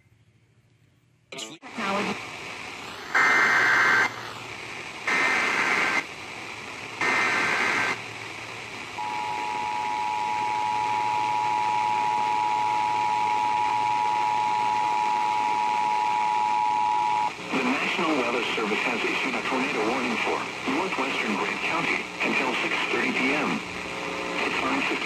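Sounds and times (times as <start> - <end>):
background hiss: 0.0 - 25.0.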